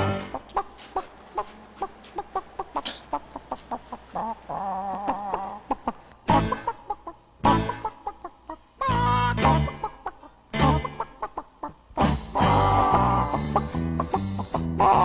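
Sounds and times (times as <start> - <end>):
chicken clucking: 0.0 - 15.0.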